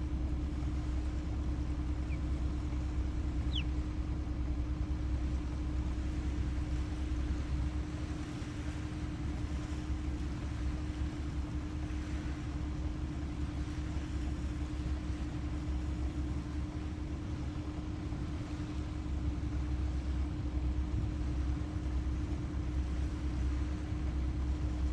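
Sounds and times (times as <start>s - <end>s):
motor running with low rumble: 0.0s - 24.9s.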